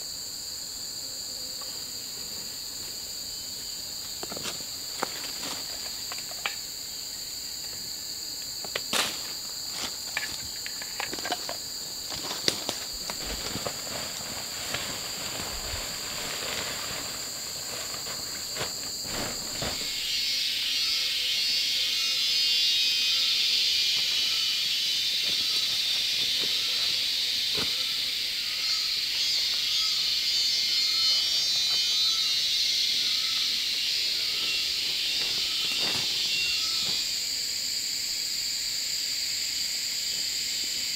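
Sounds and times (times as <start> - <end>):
hissing insect chorus: 0.0 - 40.9
insects calling: 0.0 - 40.9.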